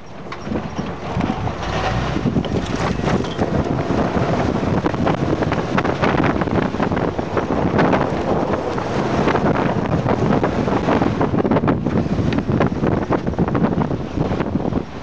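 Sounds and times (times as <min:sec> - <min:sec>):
tyres on dirt trail: 0:00.0 - 0:15.0
wind buffeting microphone: 0:00.0 - 0:15.0.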